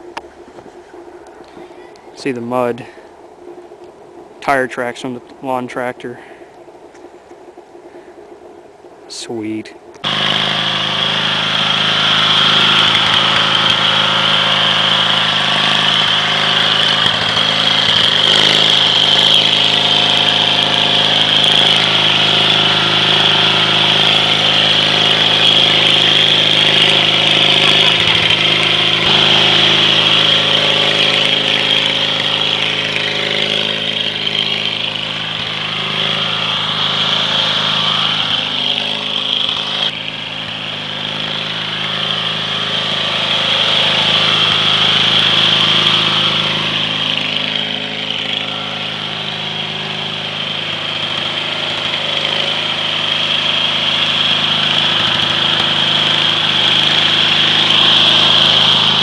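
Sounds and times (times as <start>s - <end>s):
lawn tractor engine running: 3.8s - 59.0s.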